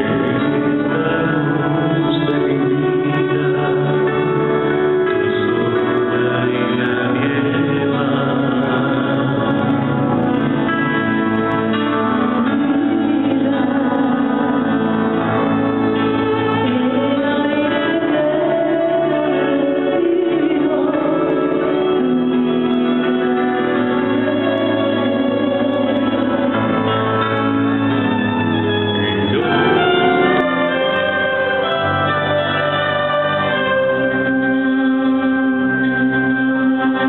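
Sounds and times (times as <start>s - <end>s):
congregation singing a hymn: 0.0s - 37.0s
instrumental accompaniment: 0.0s - 37.0s.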